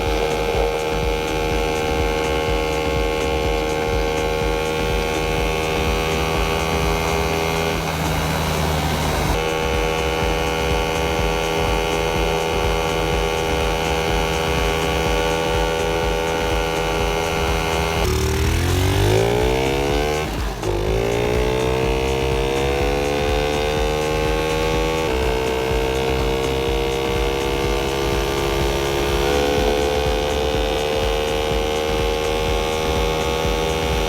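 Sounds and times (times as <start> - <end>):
minibike engine running: 0.0 - 34.0.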